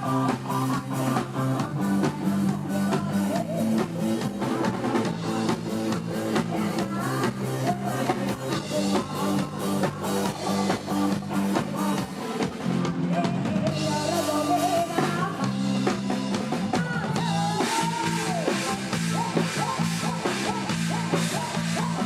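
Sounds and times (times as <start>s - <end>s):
bass guitar: 0.0s - 22.0s
drum kit beat: 0.0s - 22.0s
electric guitar: 0.0s - 22.0s.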